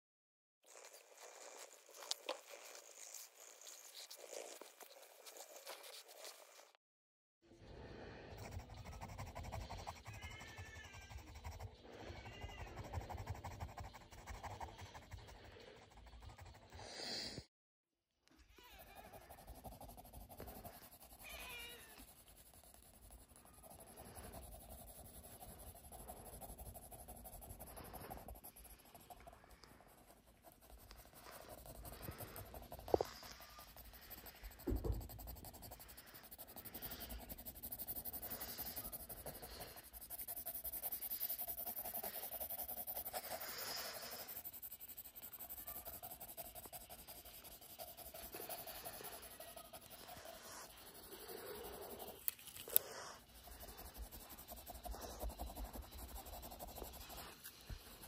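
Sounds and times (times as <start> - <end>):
pencil scratching on paper: 0.6 - 6.8, 8.0 - 17.4, 18.8 - 58.0.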